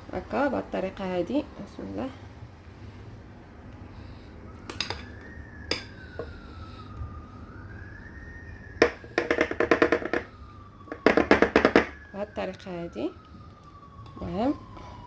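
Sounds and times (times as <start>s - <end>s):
faint siren: 0.0s - 15.0s.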